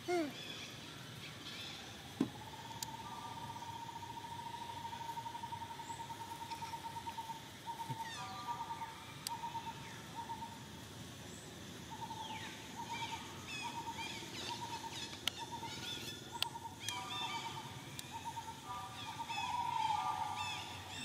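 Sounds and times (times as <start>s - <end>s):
bird trill: 2.4s - 10.6s, 11.9s - 21.0s.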